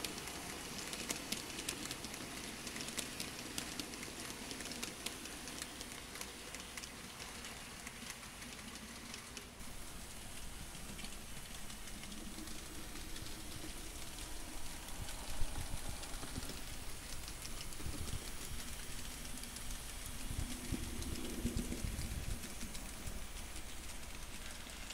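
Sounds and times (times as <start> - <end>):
light clicks of model train: 0.0 - 24.9
model train wheels hissing on rails: 0.0 - 24.9.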